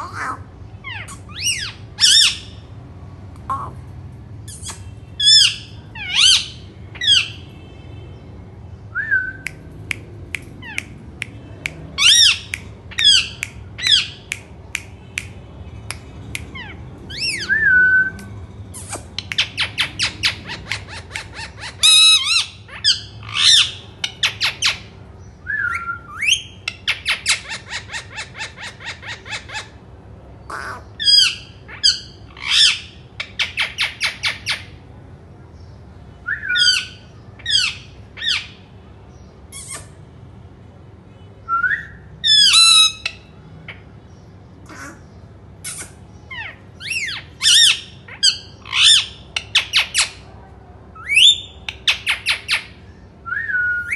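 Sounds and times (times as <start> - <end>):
parakeets screeching: 0.0 - 8.3, 10.4 - 11.2, 11.8 - 14.6, 16.4 - 34.8, 36.3 - 40.0, 42.0 - 50.3, 51.0 - 53.0.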